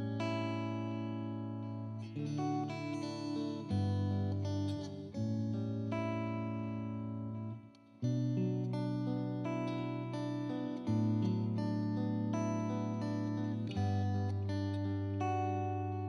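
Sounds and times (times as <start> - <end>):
solo guitar plucking notes and chords: 0.0 - 16.0.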